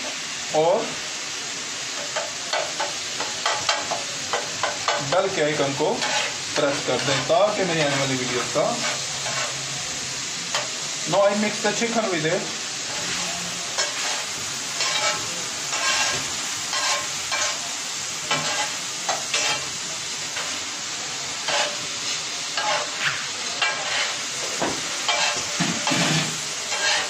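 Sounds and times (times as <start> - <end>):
chicken sizzling on griddle: 0.0 - 27.0
spatula scraping griddle: 2.0 - 9.8, 10.5 - 20.6, 21.4 - 27.0.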